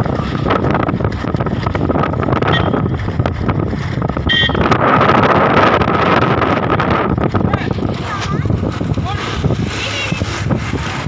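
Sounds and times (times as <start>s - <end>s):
vehicle noise: 0.0s - 11.0s
wind on microphone: 0.0s - 11.0s.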